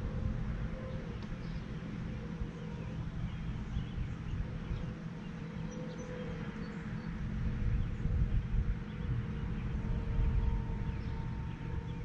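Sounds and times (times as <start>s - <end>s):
faint hum: 0.0s - 12.0s
steady low rumble: 0.0s - 12.0s.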